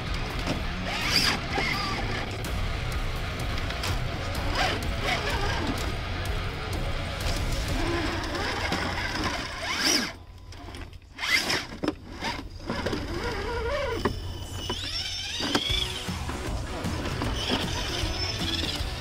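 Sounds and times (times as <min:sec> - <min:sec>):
toy truck electric motor whining: 0:00.4 - 0:02.4, 0:03.6 - 0:06.0, 0:07.2 - 0:19.0.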